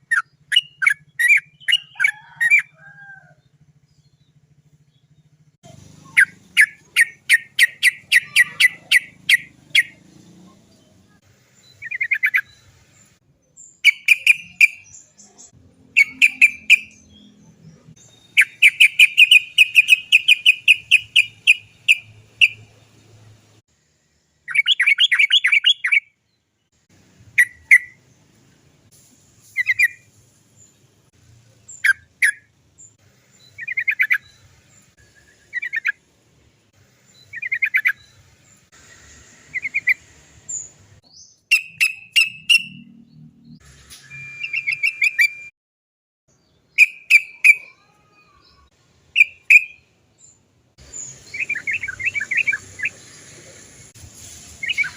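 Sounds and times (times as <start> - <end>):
bird calling with rolling trills: 0.0 - 23.2, 24.4 - 26.3, 27.3 - 28.2, 31.5 - 36.0, 37.1 - 45.5, 46.3 - 53.5, 54.6 - 54.9.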